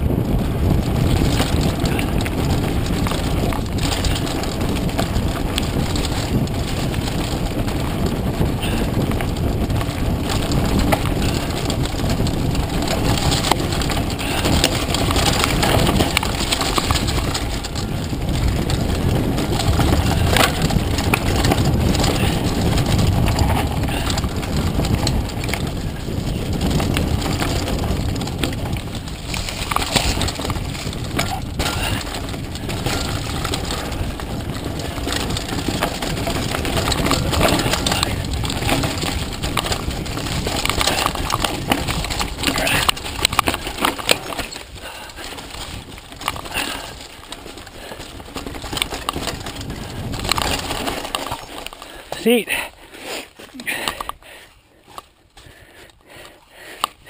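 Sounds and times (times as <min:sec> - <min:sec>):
bike clattering over bumps: 0:00.0 - 0:57.0
bike tyre noise: 0:00.0 - 0:57.0
wind rush on microphone: 0:00.0 - 0:57.0.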